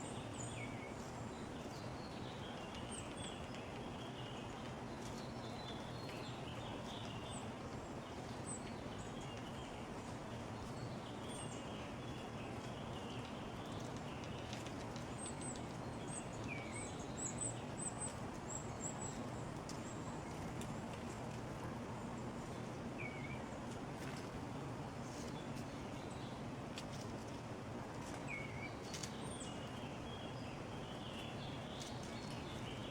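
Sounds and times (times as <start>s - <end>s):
songbirds chirping: 0.0s - 20.9s, 21.9s - 23.6s, 28.0s - 32.9s
outdoor background hum: 0.0s - 32.9s.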